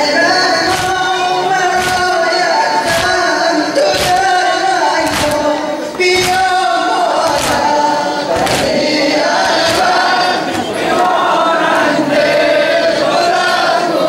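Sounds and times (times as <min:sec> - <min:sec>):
congregation chanting in unison: 0:00.0 - 0:14.0
crowd beating chests: 0:00.0 - 0:14.0.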